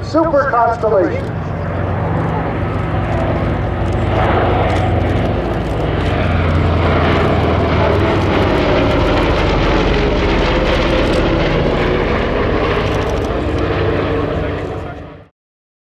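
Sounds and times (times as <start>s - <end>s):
propeller airliner flying past: 0.0s - 15.3s.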